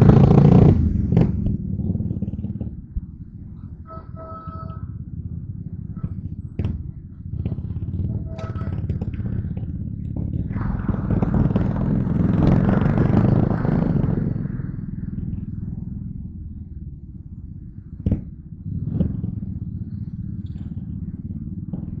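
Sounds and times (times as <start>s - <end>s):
motorcycle engine running: 0.0s - 22.0s
rushing wind: 0.0s - 22.0s.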